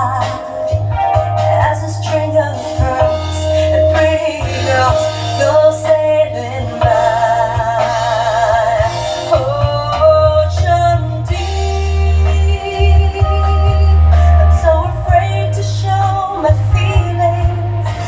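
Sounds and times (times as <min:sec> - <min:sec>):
person singing with vibrato: 0:00.0 - 0:18.0
song over sound system: 0:00.0 - 0:18.0.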